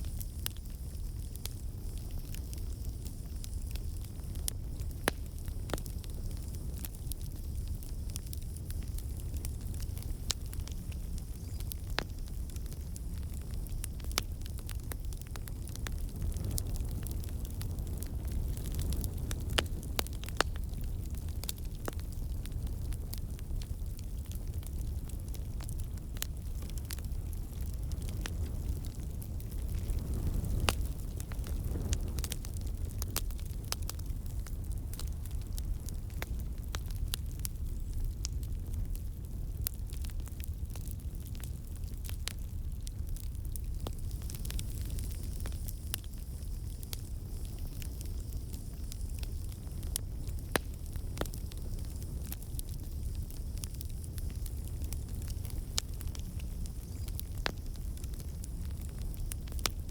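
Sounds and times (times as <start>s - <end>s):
burning wood crackling and popping: 0.0s - 59.9s
low rush of flame: 0.0s - 59.9s.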